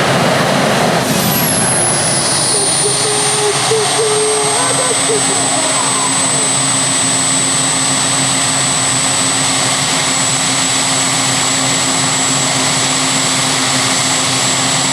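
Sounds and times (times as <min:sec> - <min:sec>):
vehicle engine running loud: 0:00.0 - 0:14.9
thin high whine: 0:01.0 - 0:14.7.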